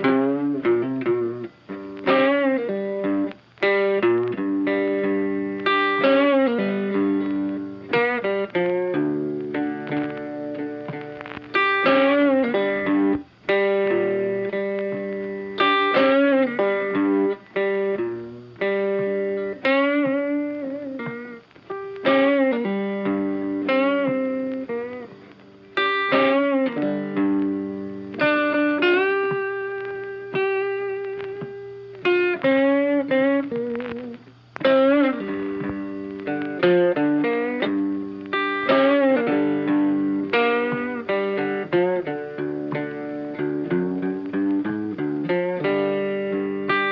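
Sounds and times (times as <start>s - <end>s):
guitar melody with sliding notes: 0.0s - 46.9s.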